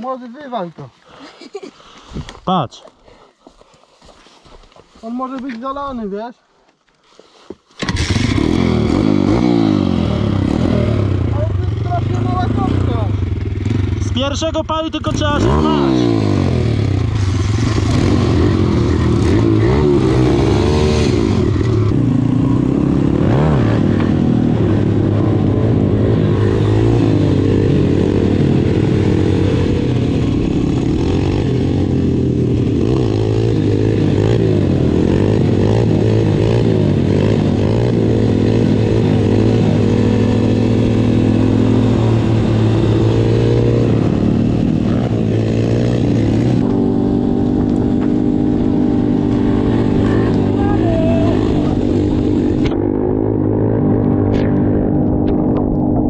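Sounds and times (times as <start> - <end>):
dirt bike engines revving: 7.8 - 56.0.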